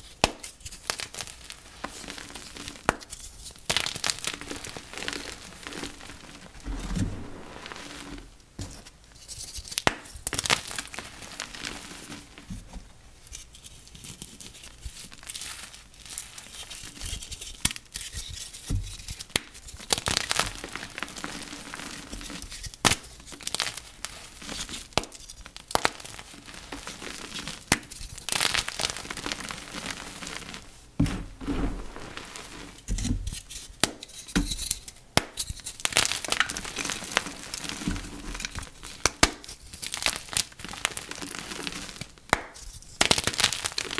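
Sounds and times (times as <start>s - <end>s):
chalk being crushed: 0.0s - 12.5s, 13.2s - 43.9s.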